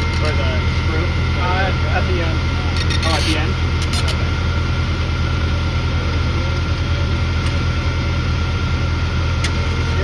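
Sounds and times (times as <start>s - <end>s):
engine droning: 0.0s - 10.0s
faint steady whine: 0.0s - 10.0s.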